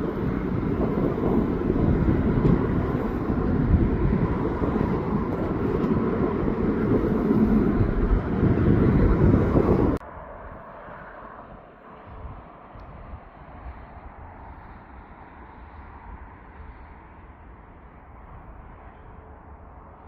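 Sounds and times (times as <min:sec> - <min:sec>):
wind buffeting microphone: 0:00.0 - 0:10.8, 0:11.4 - 0:20.0.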